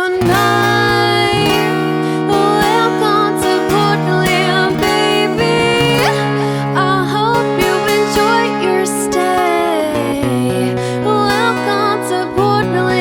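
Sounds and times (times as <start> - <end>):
lead guitar melody: 0.0 - 13.0.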